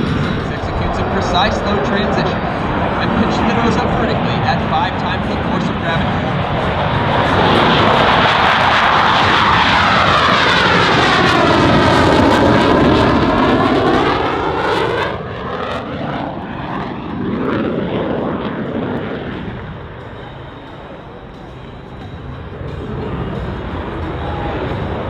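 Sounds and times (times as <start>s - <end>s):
jets passing low: 0.0s - 25.0s.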